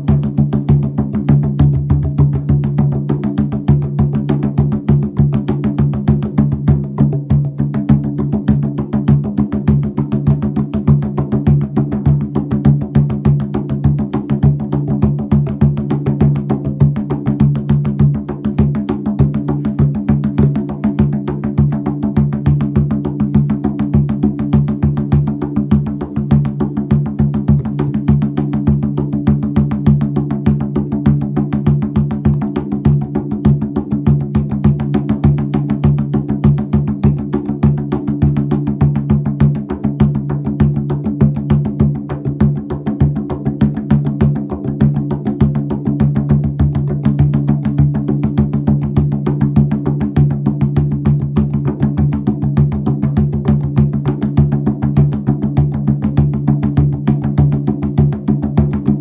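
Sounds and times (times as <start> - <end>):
fast drum strokes: 0.0 - 59.0.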